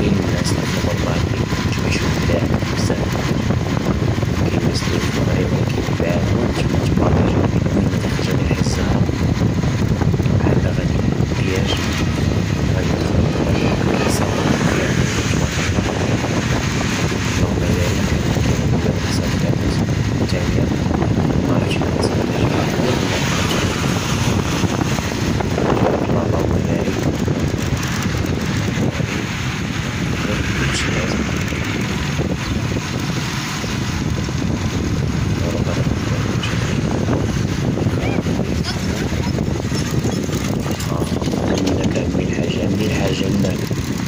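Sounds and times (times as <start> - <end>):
motorcycle ride rumble: 0.0 - 44.0
wind rushing over microphone: 0.0 - 44.0.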